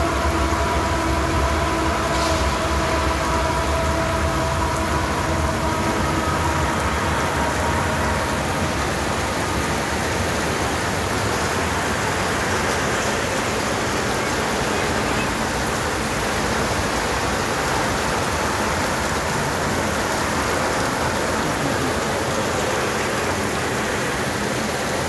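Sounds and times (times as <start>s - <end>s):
heavy rain hissing: 0.0s - 25.0s
train rumbling: 0.0s - 25.0s.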